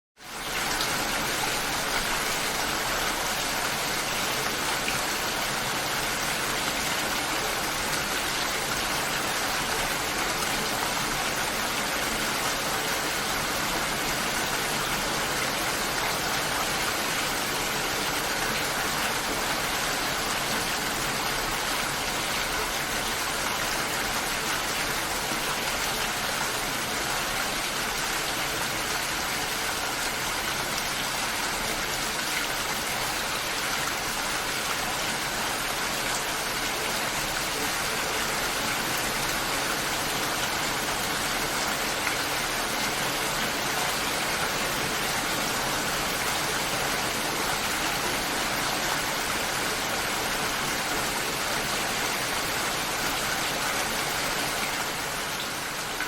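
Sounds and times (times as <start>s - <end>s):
steady rain falling: 0.2s - 56.0s.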